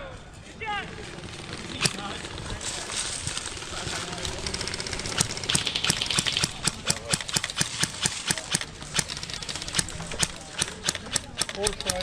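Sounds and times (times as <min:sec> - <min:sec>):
gear knocking: 0:00.8 - 0:12.0
running footsteps: 0:00.8 - 0:12.0.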